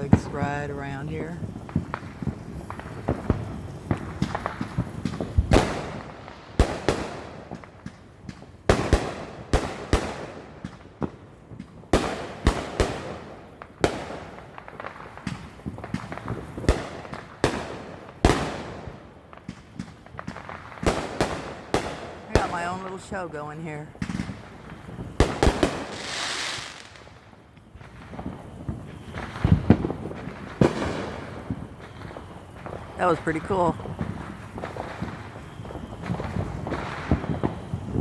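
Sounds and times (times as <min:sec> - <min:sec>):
fireworks and firecrackers banging: 0:00.0 - 0:38.0.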